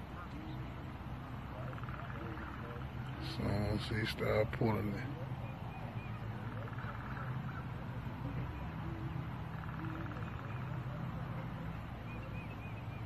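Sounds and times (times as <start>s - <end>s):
faint bird chirps: 0.0s - 13.0s
far-off voices: 0.0s - 13.0s.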